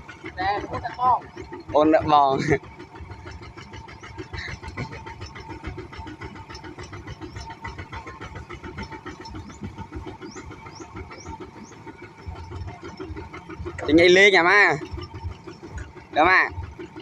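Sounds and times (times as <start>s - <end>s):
engine chugging: 0.0s - 17.0s.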